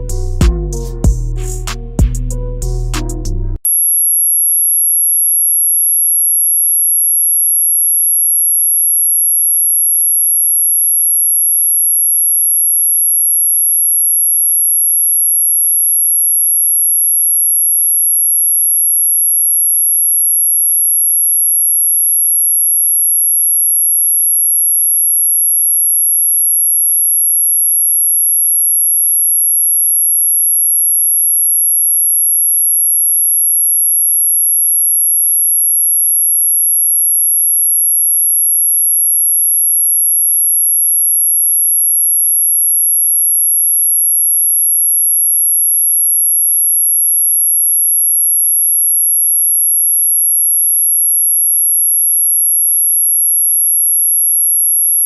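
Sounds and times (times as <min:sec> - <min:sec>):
high-pitched electronic sine tone: 0:03.5 - 0:55.0.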